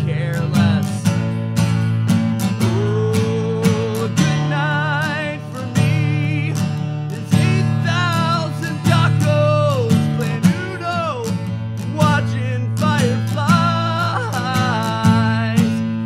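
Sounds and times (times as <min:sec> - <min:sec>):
person singing with vibrato: 0:00.0 - 0:01.2, 0:02.4 - 0:16.0
strummed acoustic guitar: 0:00.0 - 0:16.0.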